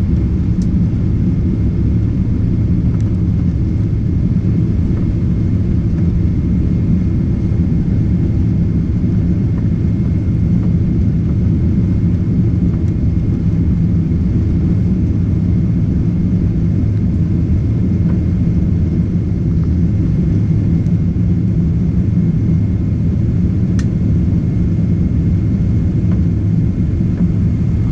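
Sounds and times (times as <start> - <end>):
jet engines rumbling: 0.0 - 27.9.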